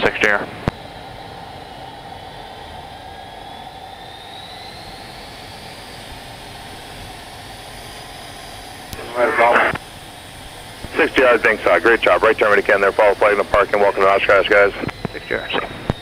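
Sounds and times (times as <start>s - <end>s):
faint high whine: 0.0s - 16.0s
jet engine rushing hiss: 0.0s - 16.0s.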